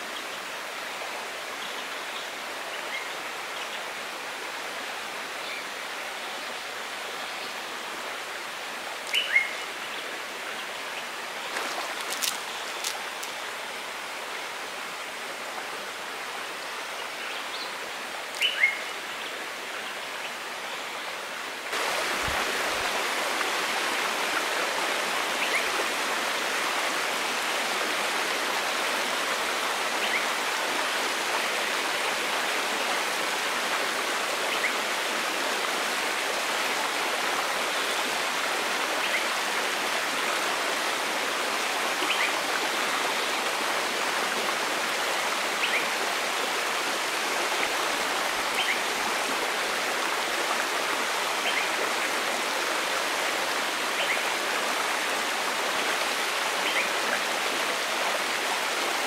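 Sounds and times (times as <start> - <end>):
forest stream rushing: 0.0 - 59.0.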